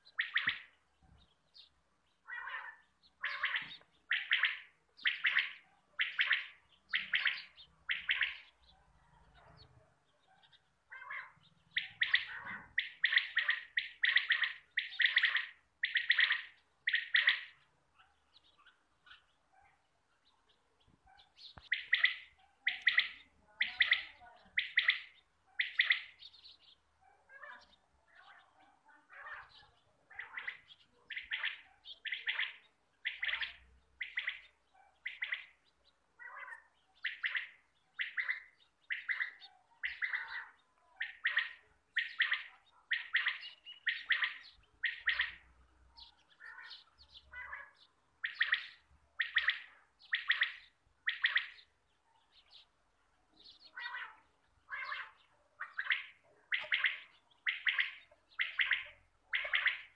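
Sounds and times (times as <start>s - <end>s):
quail calling: 0.0s - 19.8s, 21.1s - 35.6s, 36.2s - 52.6s, 53.4s - 59.9s.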